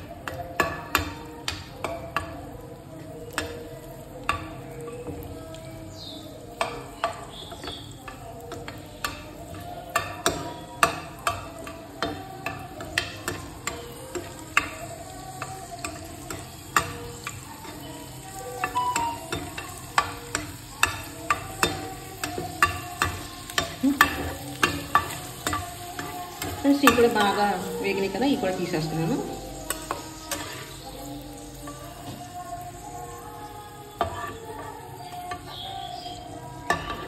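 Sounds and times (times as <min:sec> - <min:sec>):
faint sizzle: 0:00.0 - 0:37.0.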